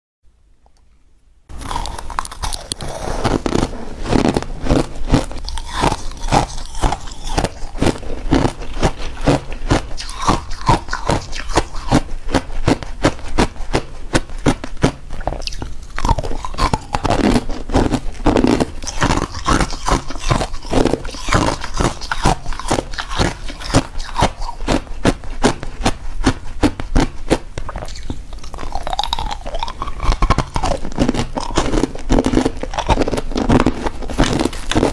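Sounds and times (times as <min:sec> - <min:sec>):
crushed ice being chewed: 0:01.5 - 0:34.9.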